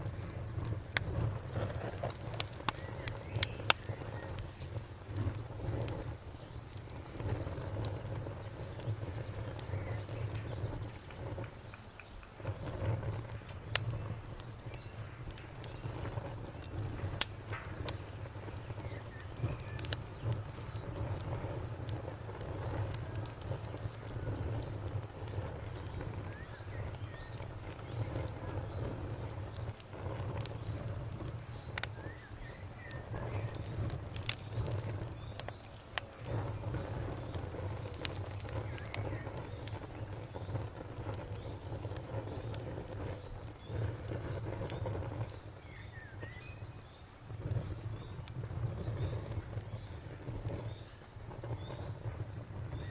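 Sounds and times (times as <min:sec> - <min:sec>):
cricket chirping: 0:00.0 - 0:52.9
wood fire crackling and popping: 0:00.0 - 0:52.9.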